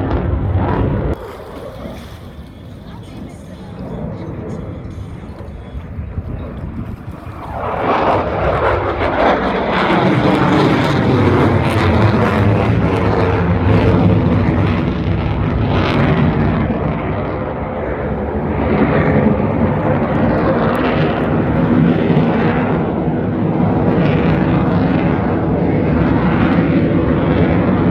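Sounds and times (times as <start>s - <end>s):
jet aircraft flying past: 0.0s - 27.9s.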